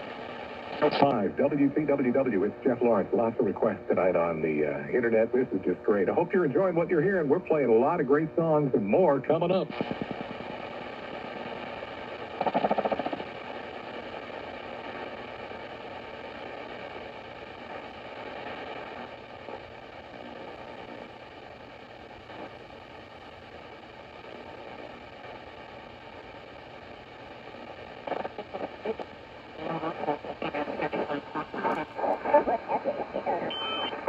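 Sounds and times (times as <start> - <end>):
buzzing radio signal: 0.0 - 34.0
radio static hissing: 0.0 - 34.0.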